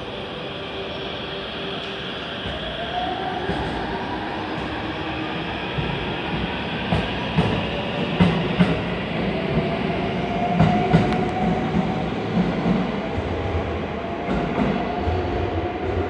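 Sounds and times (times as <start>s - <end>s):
train rumble: 1.6s - 16.0s.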